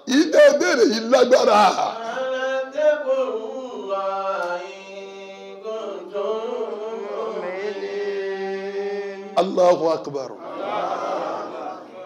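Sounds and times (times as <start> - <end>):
man chanting melodically: 0.0 - 10.4.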